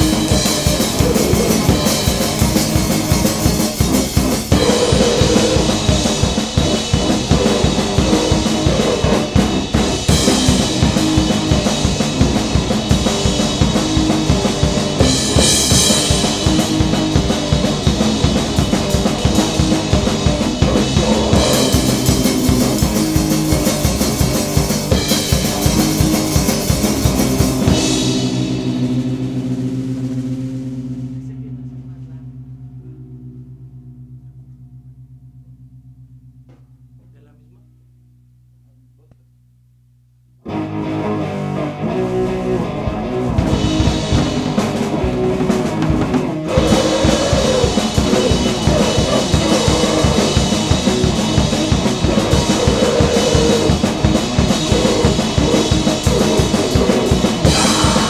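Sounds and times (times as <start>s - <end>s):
rapid pounding drum kit: 0.0s - 32.8s, 41.3s - 58.0s
noise band playing: 0.0s - 35.0s, 40.4s - 58.0s.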